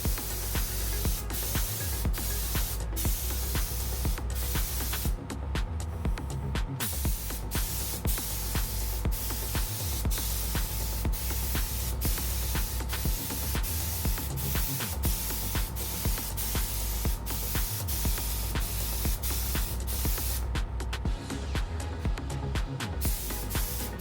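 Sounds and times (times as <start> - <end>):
spray paint hissing: 0.0 - 5.3, 6.0 - 21.0, 22.8 - 24.0.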